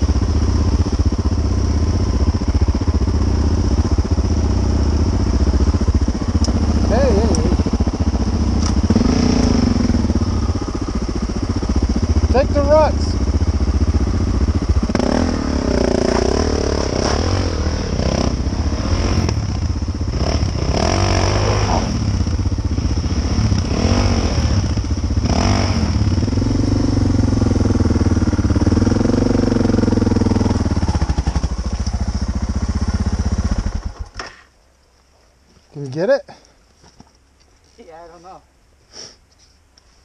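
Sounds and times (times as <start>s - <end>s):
motorcycle engine revving: 0.0s - 34.4s
motorcycle engine idling: 0.0s - 35.0s.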